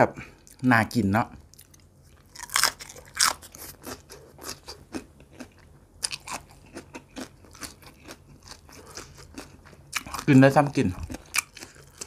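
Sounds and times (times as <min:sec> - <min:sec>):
crunchy chewing of raw vegetables: 0:01.5 - 0:12.0.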